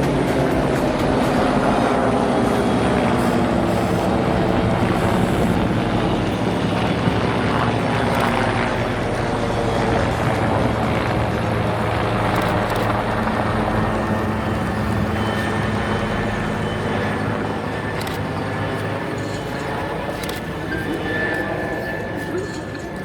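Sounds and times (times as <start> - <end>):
helicopter droning: 0.0 - 23.0.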